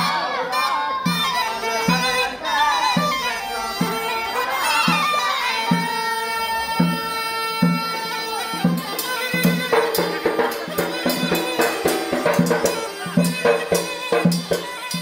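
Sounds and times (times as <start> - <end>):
reed pipe melody: 0.0 - 15.0.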